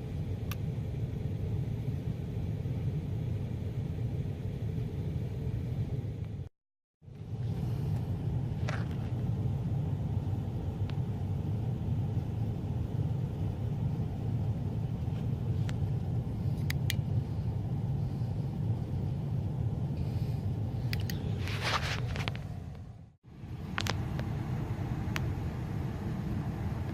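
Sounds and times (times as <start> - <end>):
air handler blower rumbling: 0.0 - 26.9.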